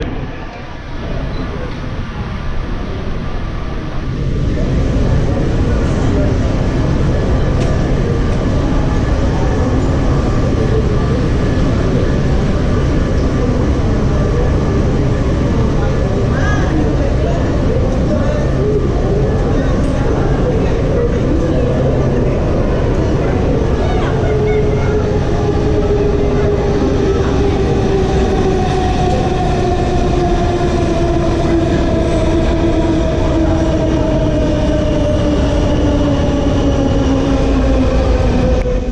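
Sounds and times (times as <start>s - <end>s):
subway train rumbling: 0.0s - 38.9s.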